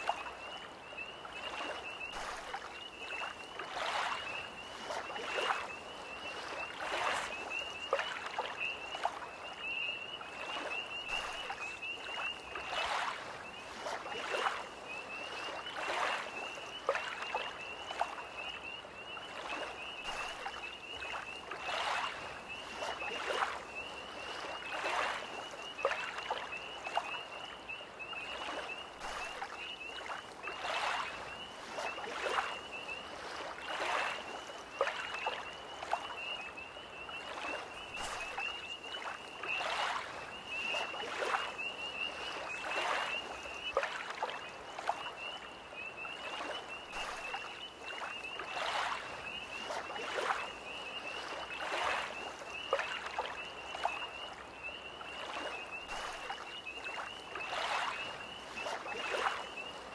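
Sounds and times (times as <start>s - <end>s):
lake waves lapping at shore: 0.0s - 59.9s
tree frogs trilling: 0.0s - 59.9s.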